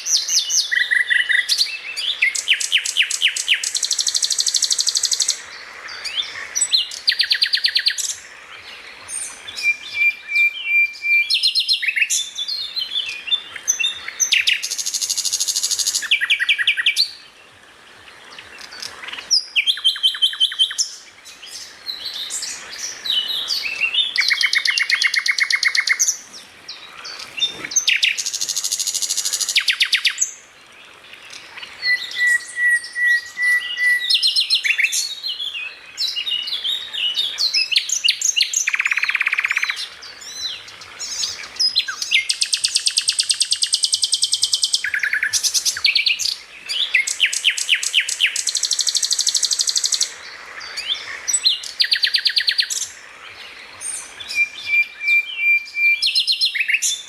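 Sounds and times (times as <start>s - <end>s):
songbird trilling and chattering: 0.0s - 8.3s, 18.4s - 30.4s, 31.2s - 57.0s.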